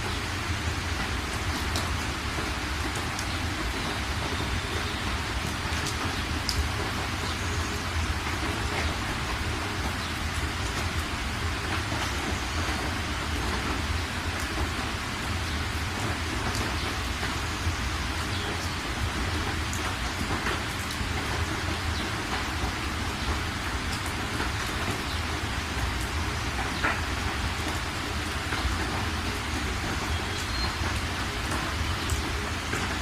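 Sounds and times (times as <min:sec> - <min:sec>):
heavy rain: 0:00.0 - 0:33.0
rain drop ticks: 0:00.0 - 0:33.0.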